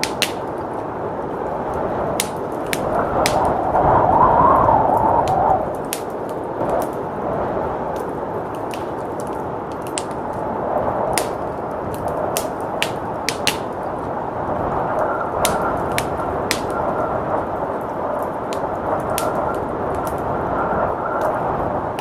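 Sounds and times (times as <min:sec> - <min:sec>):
blizzard wind rushing: 0:00.0 - 0:22.0
wood fire crackling: 0:00.0 - 0:22.0.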